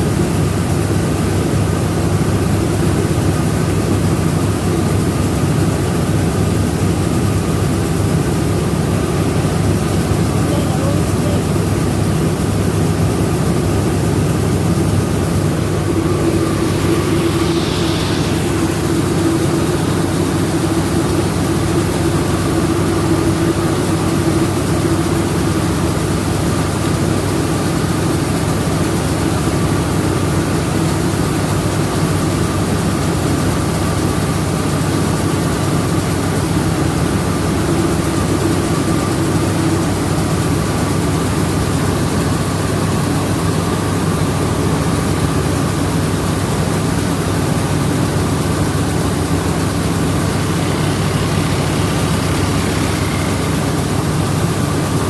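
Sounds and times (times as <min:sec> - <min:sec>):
milling machinery drone: 0:00.0 - 0:33.4, 0:34.6 - 0:55.0
constant high whine: 0:00.0 - 0:55.0.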